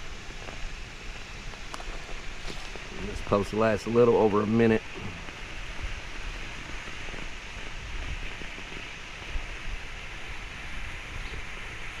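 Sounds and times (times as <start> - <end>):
smoke bomb hissing: 0.0 - 12.0
wind rumbling on microphone: 0.0 - 12.0.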